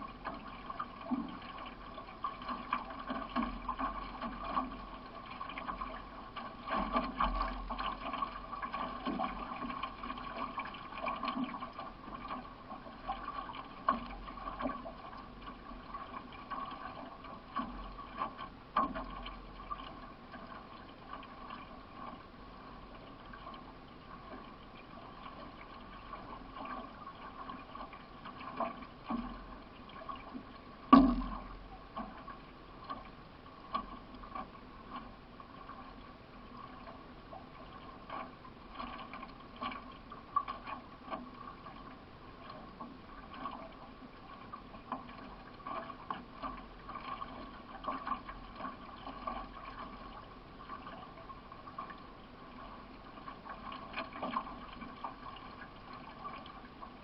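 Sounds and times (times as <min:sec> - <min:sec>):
paddle strokes: 0:00.0 - 0:57.0
water rushing along hull: 0:00.0 - 0:57.0.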